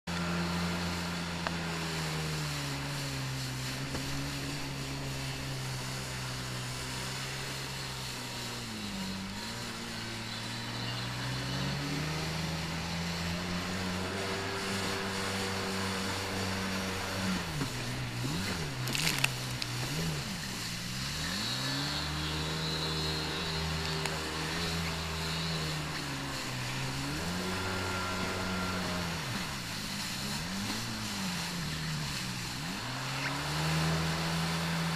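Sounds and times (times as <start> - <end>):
jet ski engine revving: 0.1 - 34.9.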